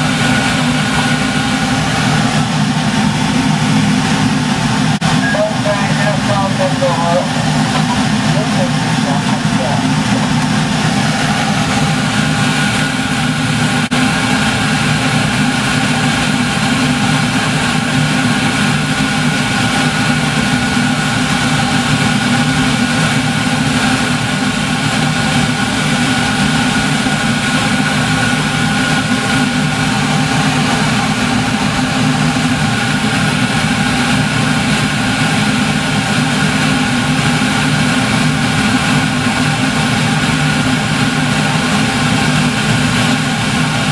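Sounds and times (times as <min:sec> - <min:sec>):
train running hum and rumble: 0:00.0 - 0:43.9.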